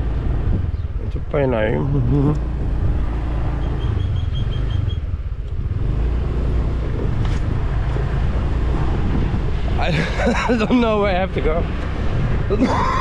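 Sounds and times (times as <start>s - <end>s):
motorbike engine rumbling: 0.0s - 13.0s.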